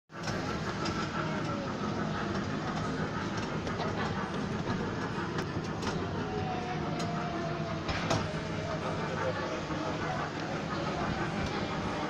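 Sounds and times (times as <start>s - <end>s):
ride-on train rumbling: 0.1s - 12.0s.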